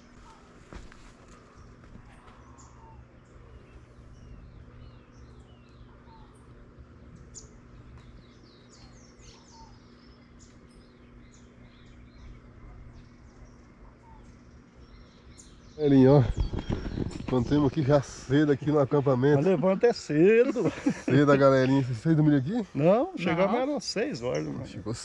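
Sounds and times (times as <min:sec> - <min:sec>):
birds chirping: 0:00.0 - 0:25.0
faint low hum: 0:00.0 - 0:25.0.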